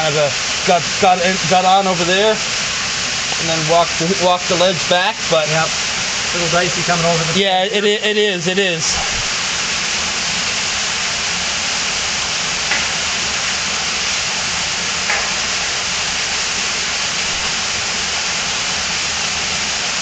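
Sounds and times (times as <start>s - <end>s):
waterfall echoing in cave: 0.0s - 20.0s.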